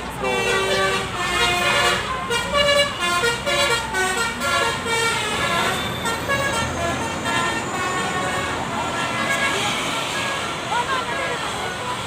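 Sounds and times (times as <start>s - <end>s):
bus horn playing melody: 0.0s - 11.4s
road traffic rumble: 0.0s - 12.0s.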